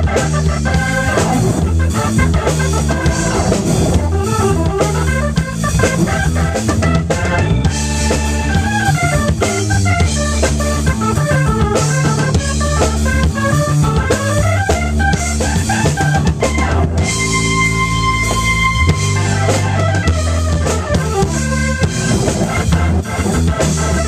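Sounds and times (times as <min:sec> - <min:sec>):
drum kit beating: 0:00.0 - 0:24.0
electric bass line: 0:00.0 - 0:24.0
organ chords: 0:00.0 - 0:24.0.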